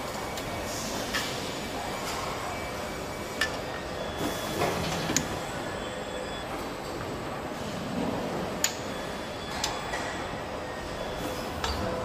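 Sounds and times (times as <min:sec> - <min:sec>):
factory machine noise: 0:00.0 - 0:12.0.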